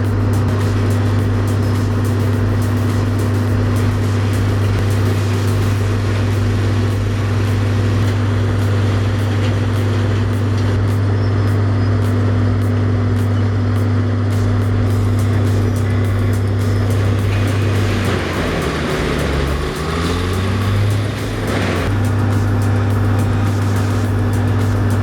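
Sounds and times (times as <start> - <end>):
background music with beat: 0.0 - 25.0
industrial grinding machine humming: 0.0 - 25.0.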